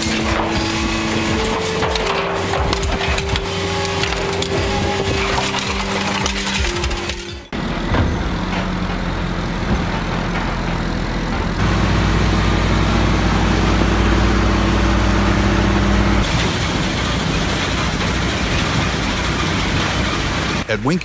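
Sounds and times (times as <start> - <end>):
heavy diesel equipment running: 0.0 - 21.0.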